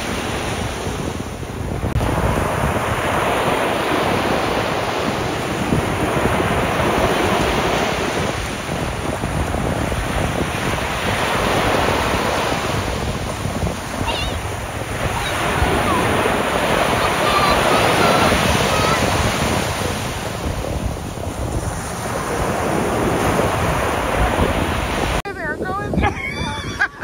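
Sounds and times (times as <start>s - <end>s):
waves breaking on beach: 0.0s - 27.0s
wind buffeting microphone: 0.0s - 27.0s.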